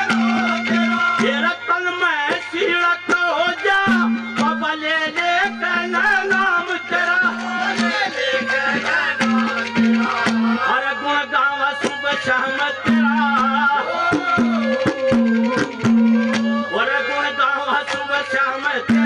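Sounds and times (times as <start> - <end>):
steady hand drum: 0.0 - 10.9, 11.8 - 17.0, 17.8 - 19.0
man singing through microphones: 0.0 - 19.0.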